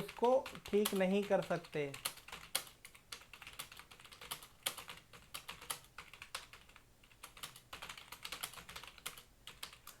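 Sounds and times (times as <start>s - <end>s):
fast typing on a keyboard: 0.0s - 10.0s.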